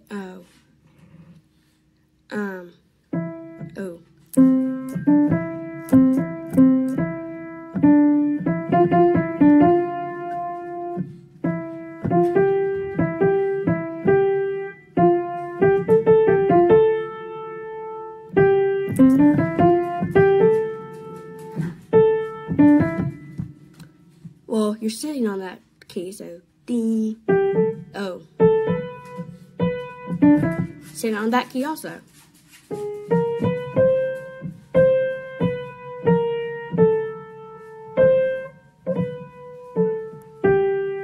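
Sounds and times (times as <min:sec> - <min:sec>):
piano melody: 0:03.0 - 0:24.5, 0:27.0 - 0:31.7, 0:32.5 - 0:41.0.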